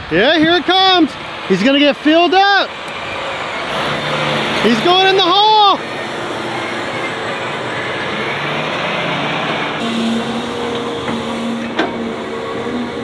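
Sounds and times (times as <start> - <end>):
dump truck engine driving by: 0.0 - 13.0
excavator engine humming: 0.0 - 13.0.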